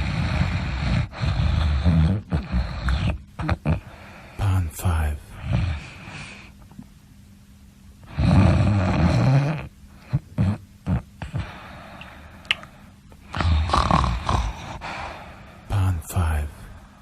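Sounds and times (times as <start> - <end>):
person snoring: 0.0 - 6.5, 8.0 - 12.2, 13.2 - 17.0.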